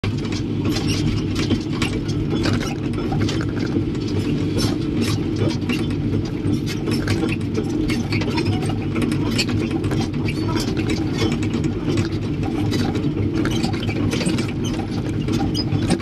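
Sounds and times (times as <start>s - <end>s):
excavator diesel engine: 0.0s - 16.0s
clicking and rattling: 0.1s - 16.0s.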